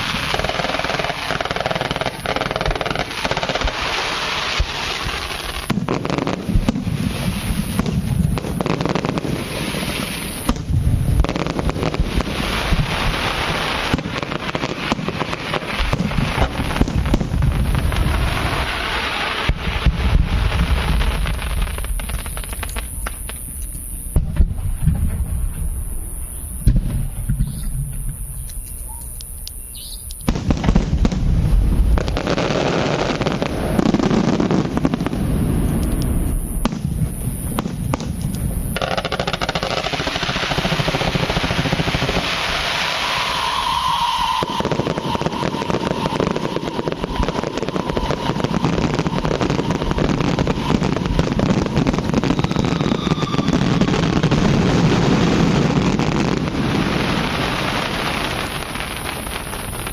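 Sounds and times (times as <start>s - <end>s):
firework bangs: 0.0s - 28.6s, 30.2s - 59.9s
firework crackling: 0.0s - 59.9s.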